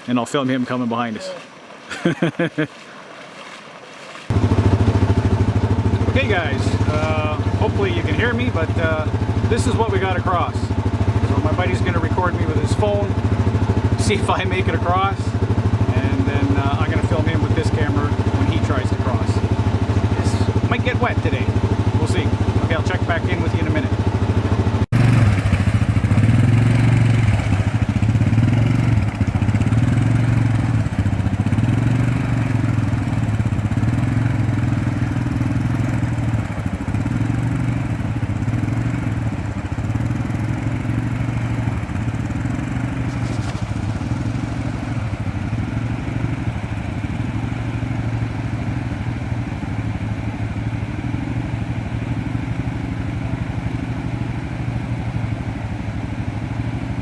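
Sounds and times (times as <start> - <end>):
atv engine humming: 4.1 - 57.0.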